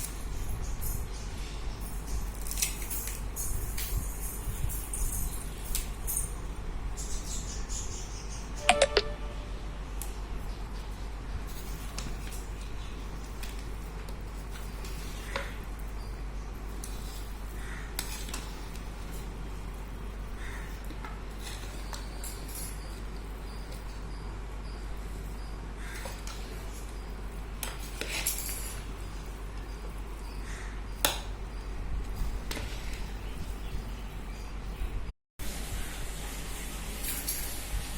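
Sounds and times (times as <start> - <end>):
low background hum: 0.0 - 37.9.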